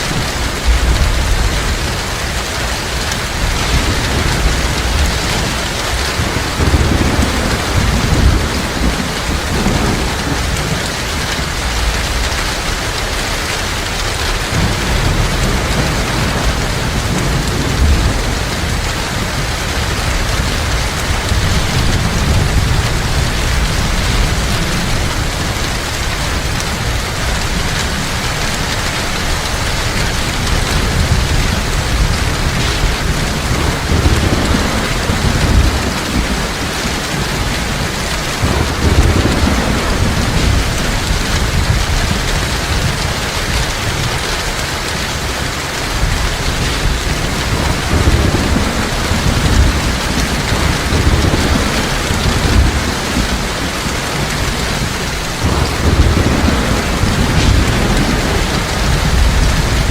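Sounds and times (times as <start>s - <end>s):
heavy rain falling: 0.0s - 59.9s
thunder rumbling: 0.0s - 59.9s.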